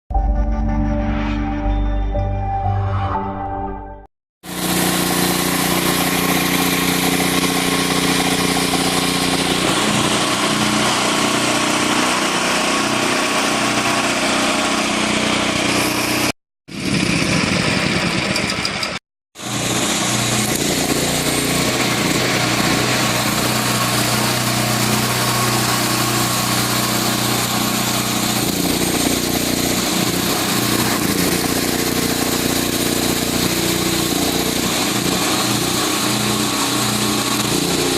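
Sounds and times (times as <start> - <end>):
welding generator engine running: 4.4 - 37.9.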